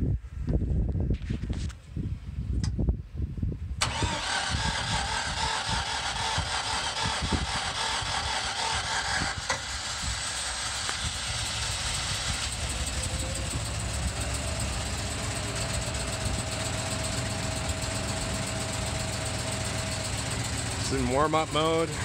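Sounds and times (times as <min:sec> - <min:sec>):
generator engine running: 0:03.8 - 0:22.0.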